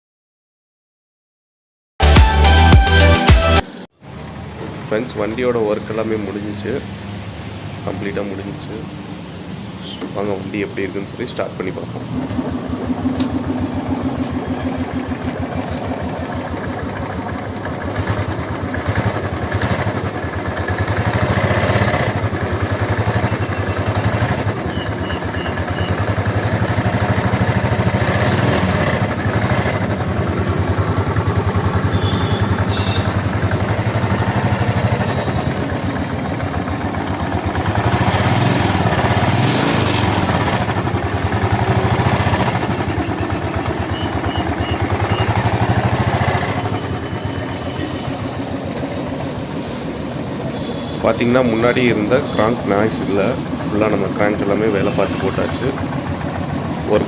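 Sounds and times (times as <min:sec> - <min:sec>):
motorcycle engine idling: 0:09.2 - 0:57.0.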